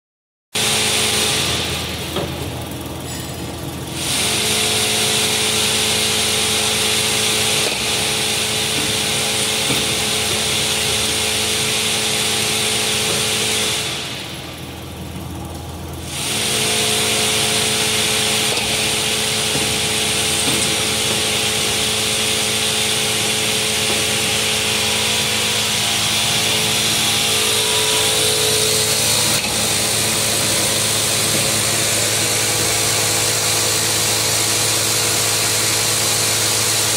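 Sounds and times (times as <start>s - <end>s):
machine whirring and humming: 0.6s - 36.9s.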